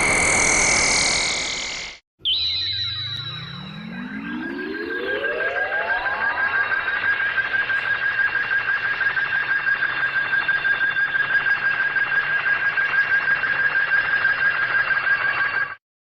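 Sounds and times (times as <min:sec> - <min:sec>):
pulsing high electronic tone: 0:00.0 - 0:15.8.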